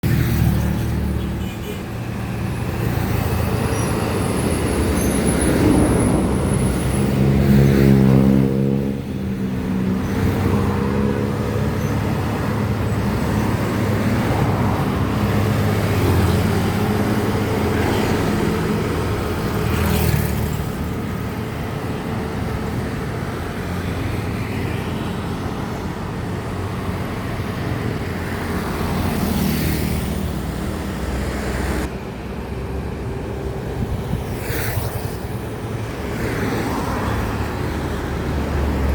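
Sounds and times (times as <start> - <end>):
road traffic: 0.0 - 38.9.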